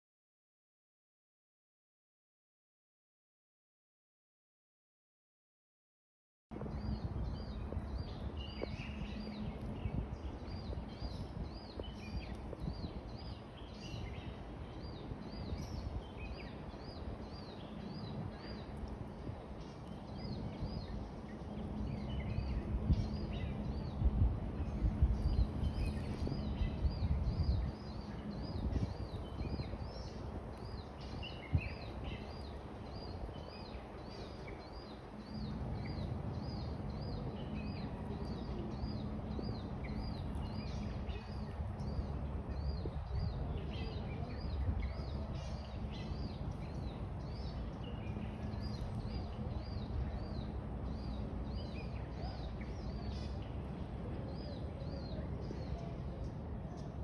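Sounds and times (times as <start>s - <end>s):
low outdoor rumble: 6.5s - 57.0s.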